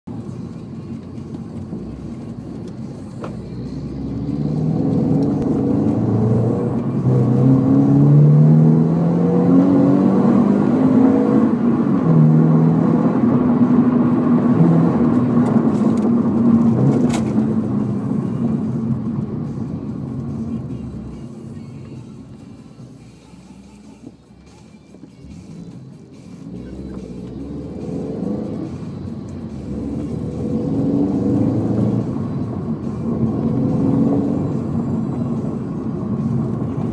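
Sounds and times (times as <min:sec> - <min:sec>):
car engine revving: 0:00.1 - 0:22.5, 0:23.5 - 0:36.9.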